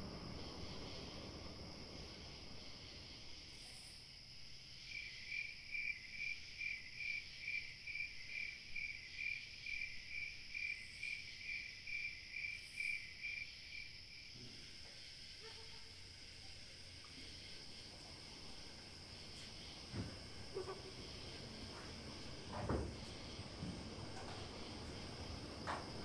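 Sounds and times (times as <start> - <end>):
cricket chirping: 0.0 - 26.0
high-pitched insect hum: 0.0 - 26.0.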